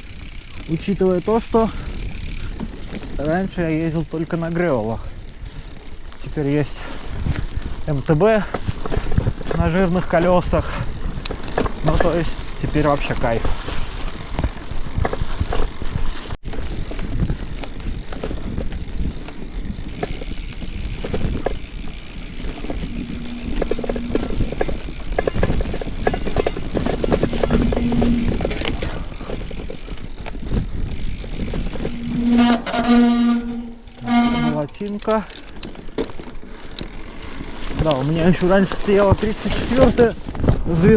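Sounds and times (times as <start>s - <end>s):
bike knocks and rattles: 0.0s - 40.9s
bike tyres rolling over ground: 0.0s - 40.9s.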